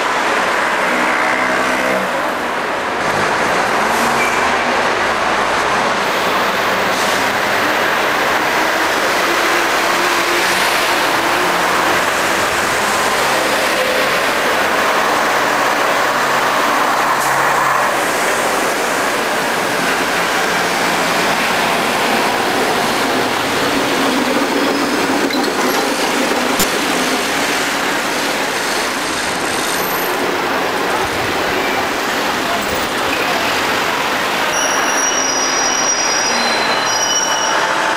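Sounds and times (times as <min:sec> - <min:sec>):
city street traffic: 0:00.0 - 0:37.9.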